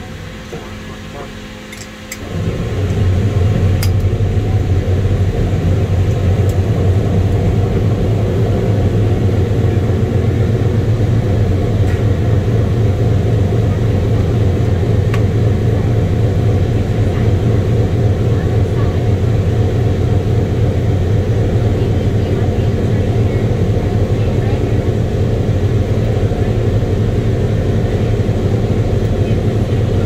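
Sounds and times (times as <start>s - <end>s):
aircraft radial engine idling: 0.0s - 30.0s.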